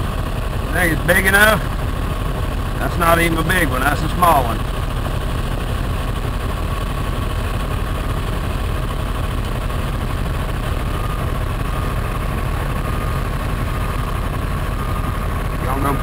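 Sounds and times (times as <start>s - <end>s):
engine idling: 0.0s - 16.0s
thin steady whine: 0.0s - 16.0s.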